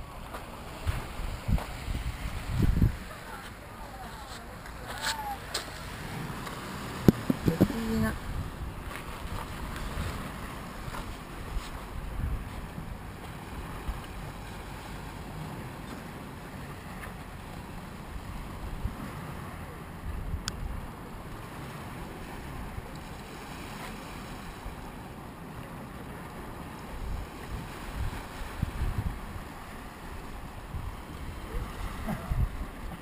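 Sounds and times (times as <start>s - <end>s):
wind buffeting microphone: 0.0s - 23.0s, 26.8s - 33.0s
light surf: 0.0s - 33.0s.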